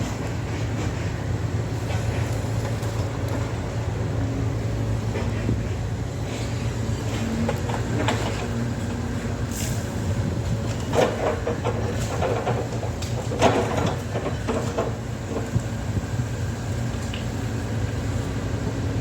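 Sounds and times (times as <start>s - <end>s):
knocks and clatter of work: 0.0s - 3.7s, 5.0s - 18.0s
heavy machinery engine rumble: 0.0s - 19.0s.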